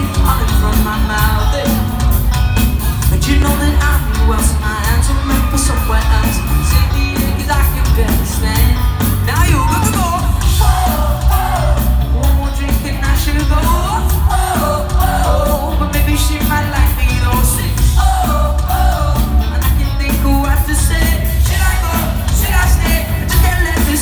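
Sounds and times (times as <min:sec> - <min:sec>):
lead vocal singing: 0:00.0 - 0:24.0
pop-rock band playing live: 0:00.0 - 0:24.0.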